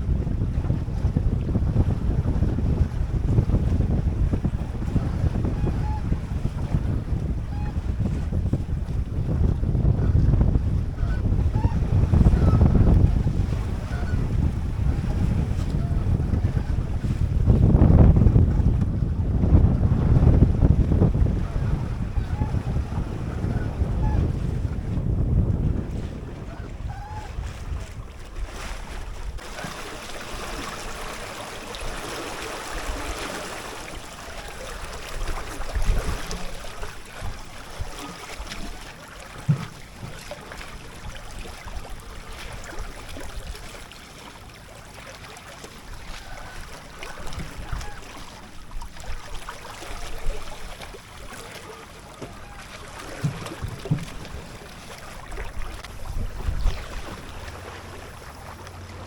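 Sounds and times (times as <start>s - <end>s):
wind gusts on microphone: 0.0s - 43.9s, 45.9s - 59.0s
water rushing along boat hull: 0.0s - 59.0s.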